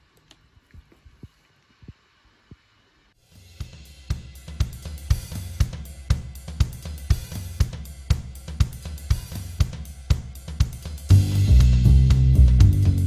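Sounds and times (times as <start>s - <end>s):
drum-kit beat with cymbals: 0.8s - 13.0s.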